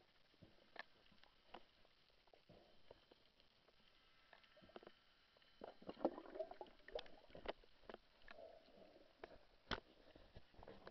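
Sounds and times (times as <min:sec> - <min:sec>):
underwater gurgling: 0:00.0 - 0:10.9.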